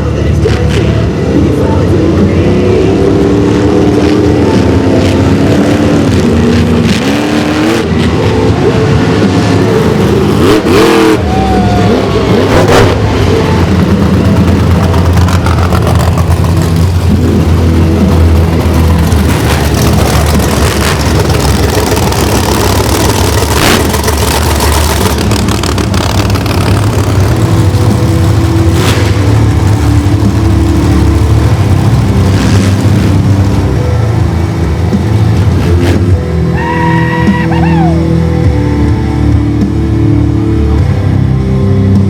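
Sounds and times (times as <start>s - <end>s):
small engines revving loudly: 2.8s - 37.9s.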